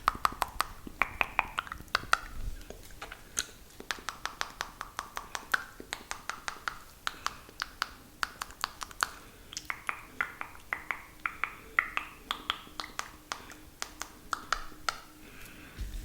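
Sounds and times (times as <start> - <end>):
wet tongue and lip clicks: 0.1 - 15.1.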